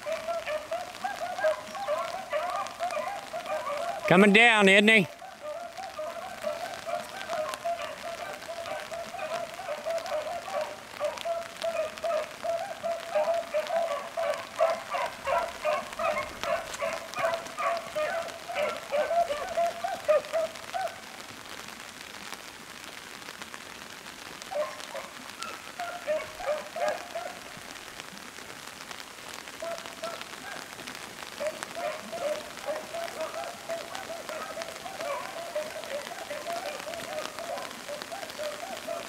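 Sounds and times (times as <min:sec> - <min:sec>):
hounds baying: 0:00.0 - 0:21.1, 0:24.5 - 0:27.6, 0:29.6 - 0:30.8, 0:31.4 - 0:39.0
rain pattering: 0:00.0 - 0:39.0.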